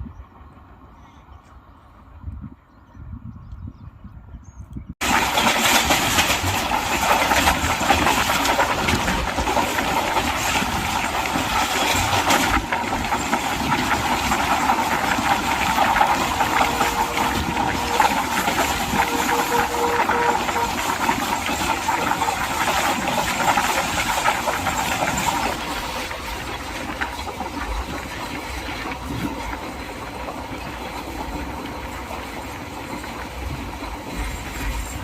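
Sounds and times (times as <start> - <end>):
train wheels on rails: 5.0 - 35.0.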